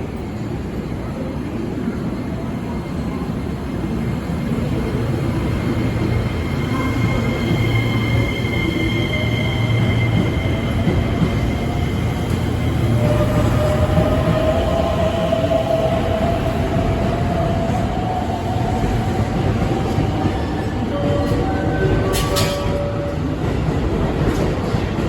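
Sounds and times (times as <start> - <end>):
electric train rumbling on track: 0.0 - 25.0.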